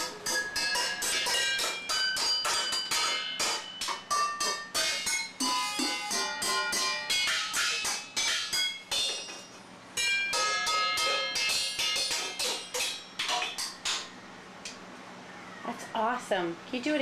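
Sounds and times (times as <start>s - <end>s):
wooden spoons drumming on metal pots: 0.0s - 14.2s.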